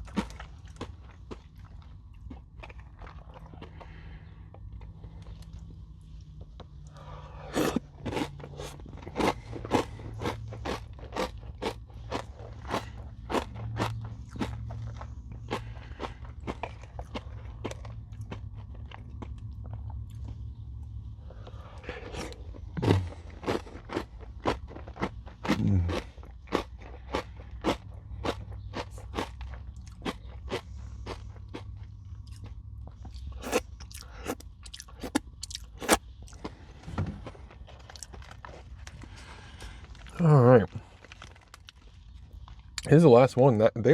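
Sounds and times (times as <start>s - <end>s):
crunchy chewing: 0.0s - 36.6s.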